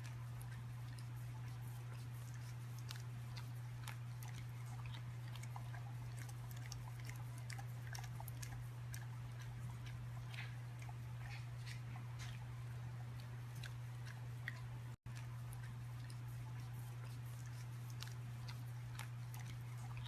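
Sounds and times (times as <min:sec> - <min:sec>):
crunchy chewing: 0:00.0 - 0:20.0
steady low hum: 0:00.0 - 0:20.0.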